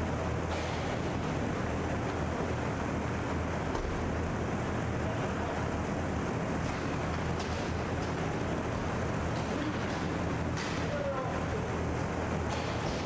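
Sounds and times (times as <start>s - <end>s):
rushing background noise: 0.0s - 13.0s.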